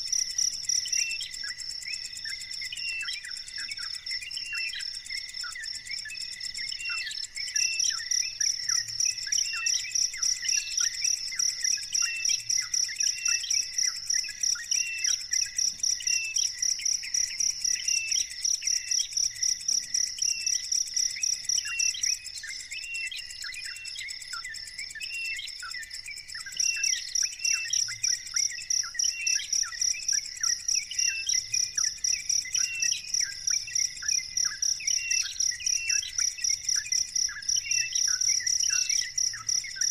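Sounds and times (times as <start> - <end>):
insect calling in high pulses: 0.0 - 39.9.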